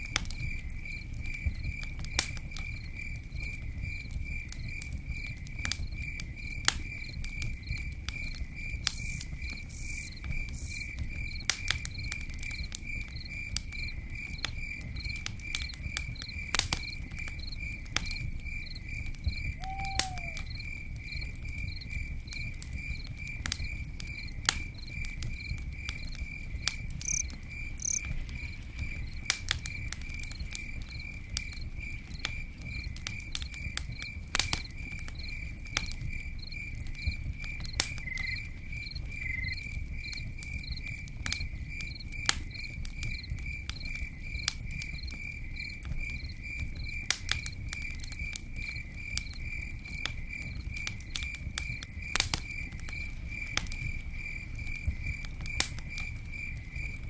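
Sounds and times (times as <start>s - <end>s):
campfire crackling: 0.0s - 57.0s
cricket chirping: 0.0s - 57.0s.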